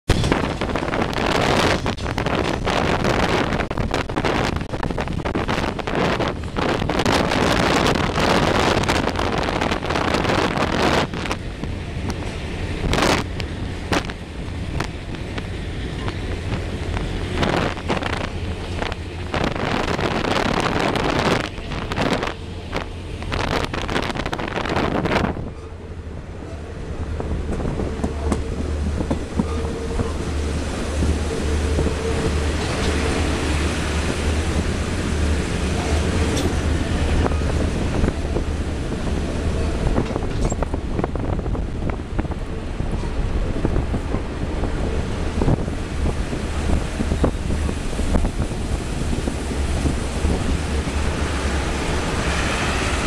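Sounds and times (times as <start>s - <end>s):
train rumbling on rails: 0.0s - 53.0s
wind buffeting microphone: 0.1s - 53.0s.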